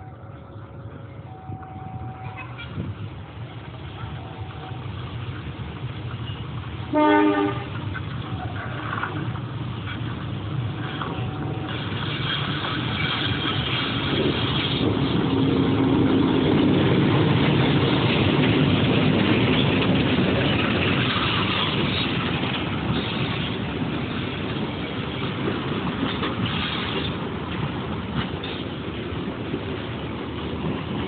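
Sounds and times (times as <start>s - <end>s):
diesel locomotive engine: 0.0s - 31.0s.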